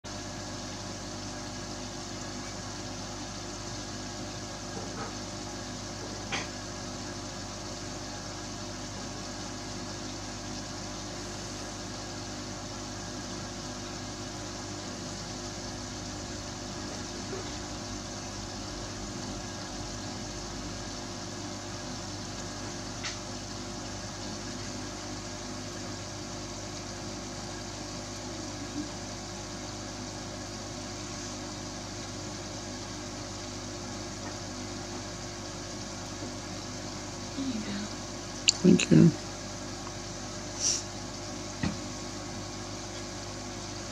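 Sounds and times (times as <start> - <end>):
aquarium equipment humming: 0.0 - 43.9.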